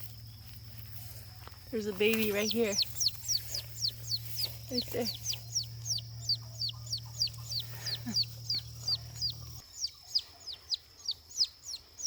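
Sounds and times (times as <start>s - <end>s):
turkey poult peeping: 0.9s - 12.0s.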